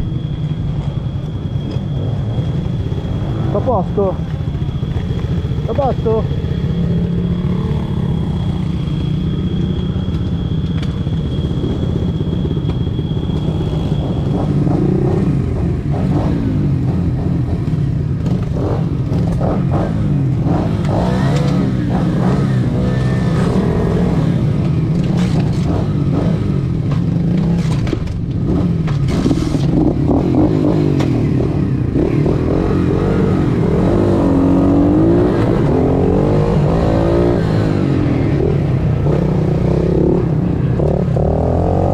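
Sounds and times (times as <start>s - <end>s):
motorbike engines revving: 0.0s - 41.9s.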